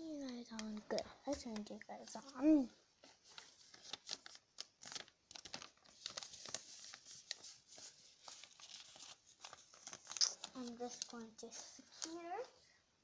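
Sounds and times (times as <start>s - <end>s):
paper rustling and crackling: 0.2s - 12.6s.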